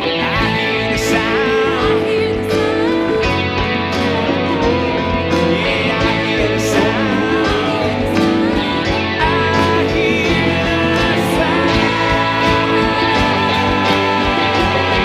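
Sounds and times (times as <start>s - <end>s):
backing track with drum beat: 0.0s - 15.0s
electric slide guitar: 0.0s - 15.0s.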